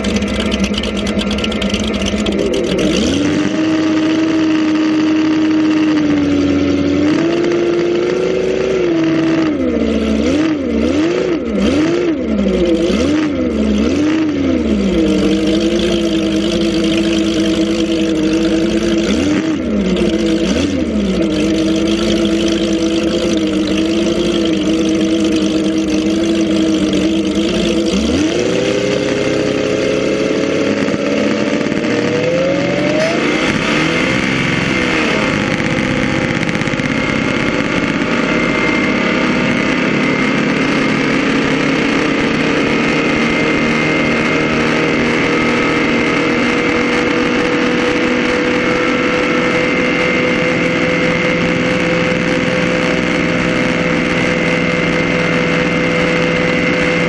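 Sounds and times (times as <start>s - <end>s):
boat engine running hard: 0.0s - 57.0s
churning wake water: 0.0s - 57.0s.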